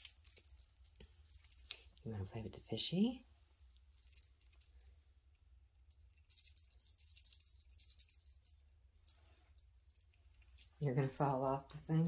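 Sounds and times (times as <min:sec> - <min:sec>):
small bell jingling: 0:00.0 - 0:12.0.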